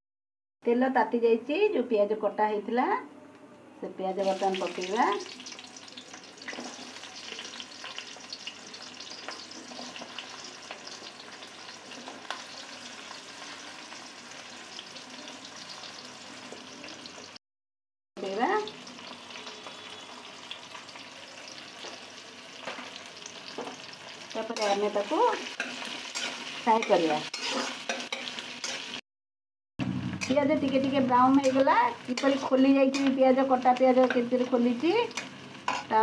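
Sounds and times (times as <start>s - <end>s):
onions sizzling in hot oil: 4.1s - 17.4s, 18.2s - 29.0s, 29.9s - 36.0s.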